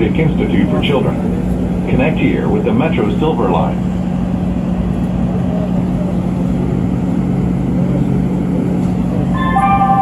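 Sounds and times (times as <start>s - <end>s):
train car hum and rumble: 0.0s - 10.0s.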